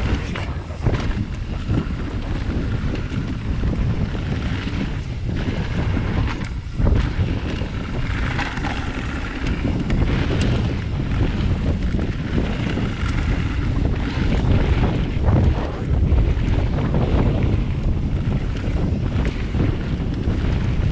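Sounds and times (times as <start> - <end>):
bike knocking and rattling: 0.0 - 20.9
wind over microphone: 0.0 - 20.9.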